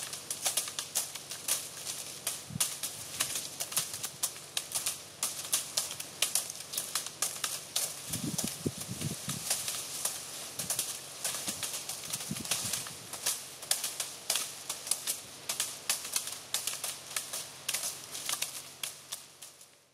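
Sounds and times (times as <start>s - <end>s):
sticks beating branches: 0.0s - 19.7s
dry leaves rustling: 0.0s - 19.9s.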